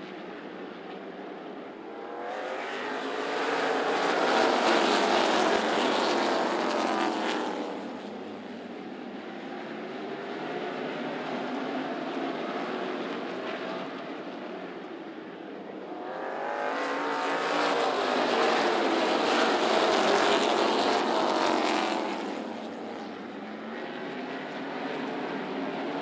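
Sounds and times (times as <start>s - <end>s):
race car engines passing: 1.4s - 26.0s.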